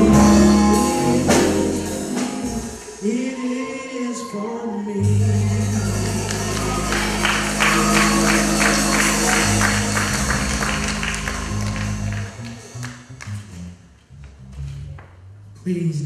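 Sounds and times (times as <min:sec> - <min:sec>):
gospel band sustained chord: 0:00.0 - 0:13.1.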